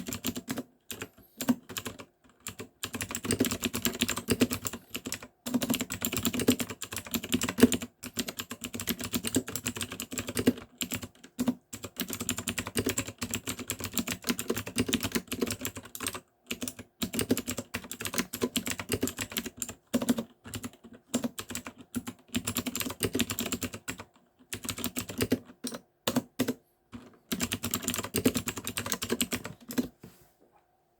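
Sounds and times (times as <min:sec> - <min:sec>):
clicky mechanical keyboard typing: 0:00.0 - 0:29.9.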